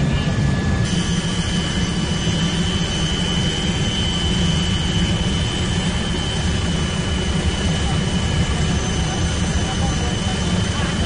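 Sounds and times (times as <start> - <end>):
helicopter engine and rotors: 0.0 - 11.0.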